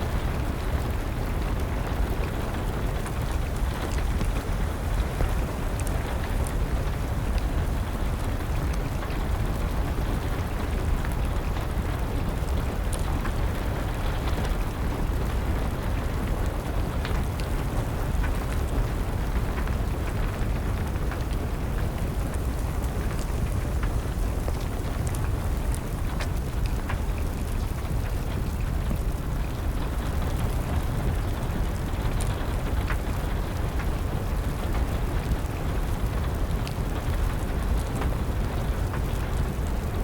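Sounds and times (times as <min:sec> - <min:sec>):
steady rain: 0:00.0 - 0:40.0
wood fire crackling: 0:00.0 - 0:40.0.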